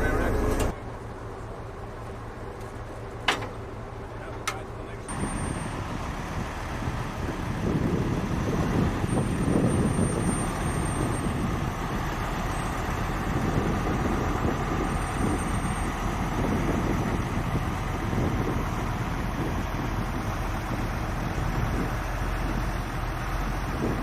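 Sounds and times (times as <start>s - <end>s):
heavy vehicle engine rumble: 0.0s - 24.0s.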